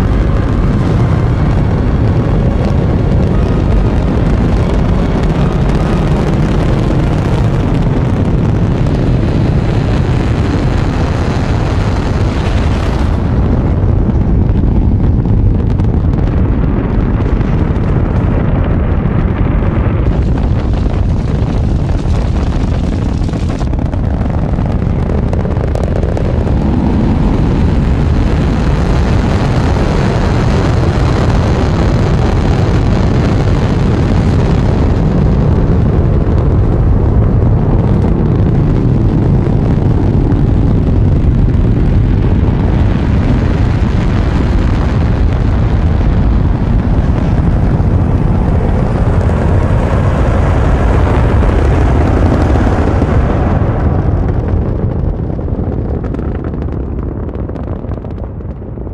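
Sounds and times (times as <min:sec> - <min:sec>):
rocket engines roaring: 0:00.0 - 0:58.9.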